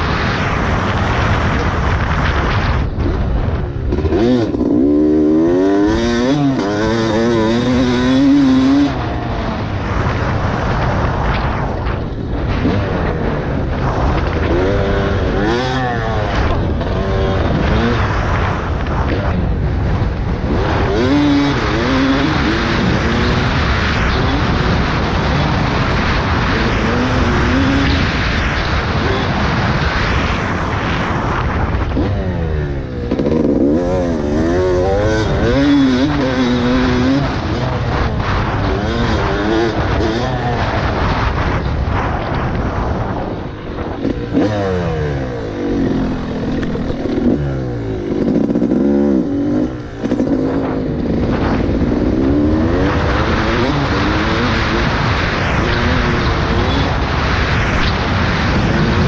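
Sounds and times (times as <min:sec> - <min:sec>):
dirt bike engine revving: 0:00.0 - 0:59.0
wind rumble: 0:00.0 - 0:59.0.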